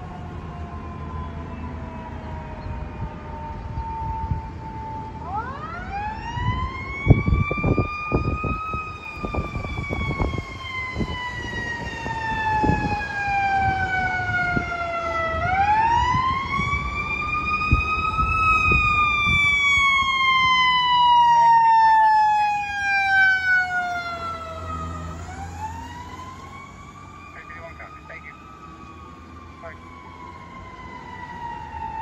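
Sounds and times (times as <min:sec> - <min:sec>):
fire engine siren wailing: 0:00.0 - 0:32.0.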